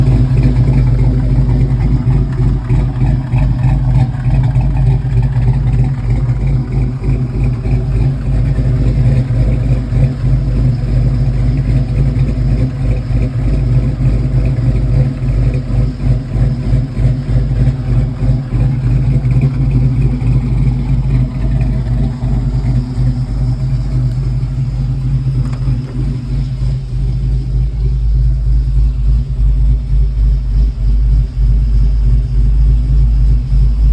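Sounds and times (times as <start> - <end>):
engine idling with choppy lope: 0.0 - 33.9.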